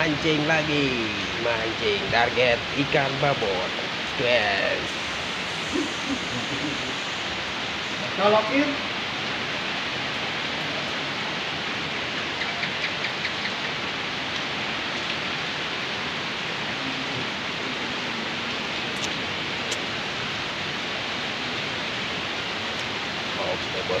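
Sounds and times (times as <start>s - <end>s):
rain falling on pond: 0.0s - 24.0s.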